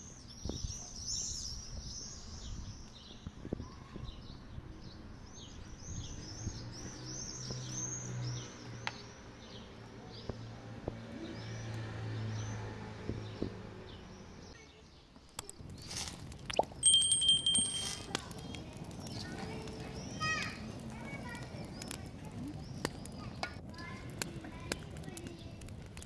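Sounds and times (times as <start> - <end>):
songbird singing: 0.0 - 25.7.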